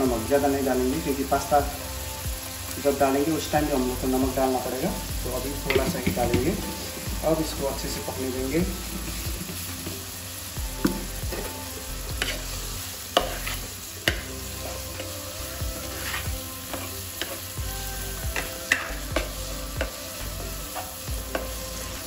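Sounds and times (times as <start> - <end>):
vegetables sizzling in a frying pan: 0.0 - 22.0.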